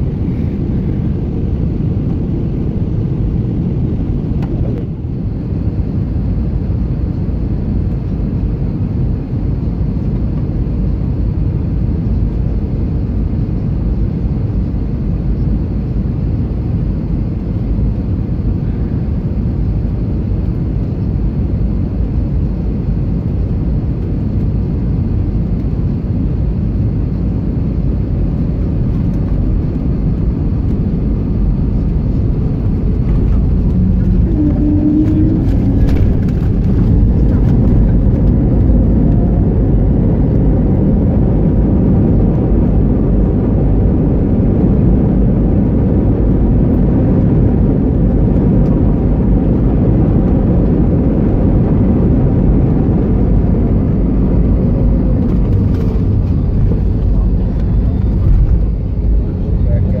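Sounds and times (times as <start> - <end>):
aircraft engines and runway rumble: 0.0 - 60.0.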